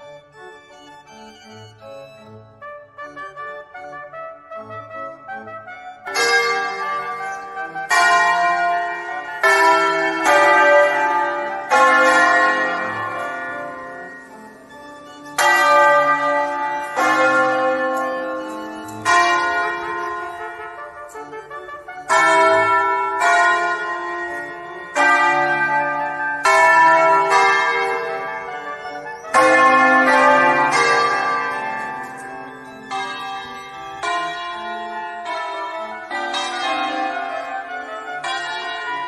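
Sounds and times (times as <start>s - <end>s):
church bells ringing: 0.0s - 39.0s.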